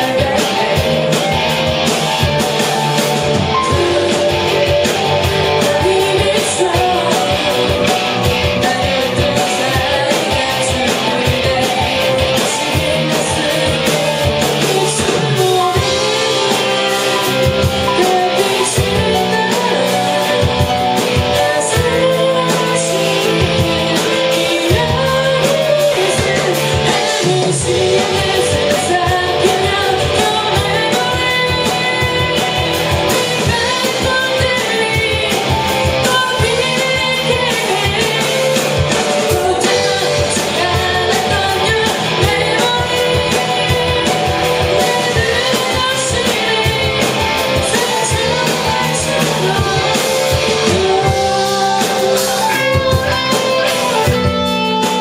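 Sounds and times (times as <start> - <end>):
drums: 0.0 - 55.0
electric guitars: 0.0 - 55.0
person singing: 0.0 - 55.0.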